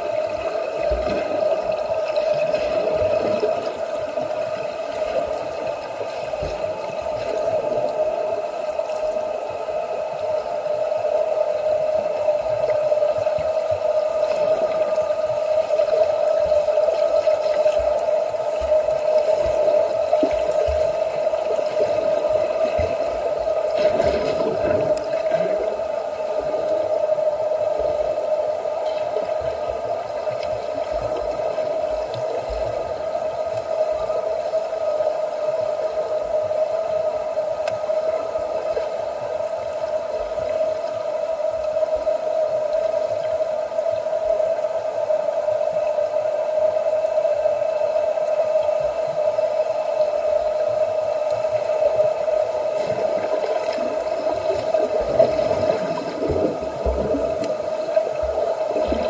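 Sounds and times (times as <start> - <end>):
steady machine hum: 0.0 - 59.0.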